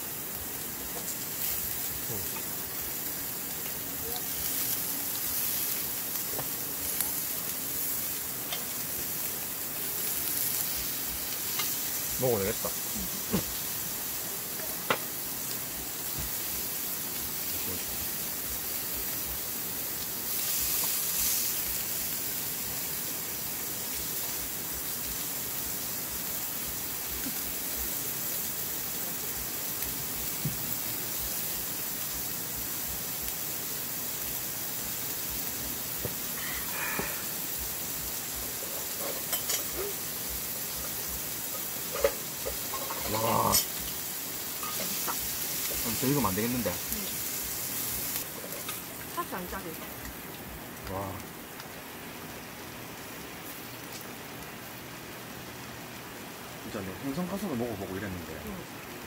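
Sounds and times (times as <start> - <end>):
food sizzling on griddle pan: 0.0 - 59.0.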